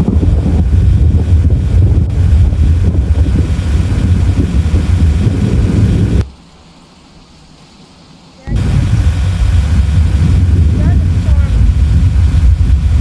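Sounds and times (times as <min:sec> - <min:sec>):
wind buffeting microphone: 0:00.0 - 0:06.3, 0:08.5 - 0:13.0.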